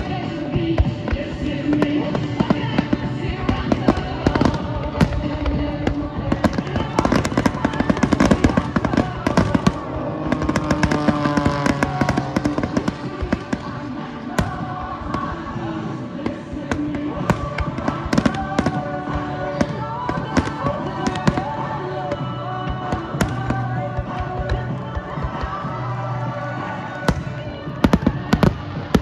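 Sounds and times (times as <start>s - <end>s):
fireworks bangs and crackles: 0.0s - 29.0s
music: 0.0s - 29.0s.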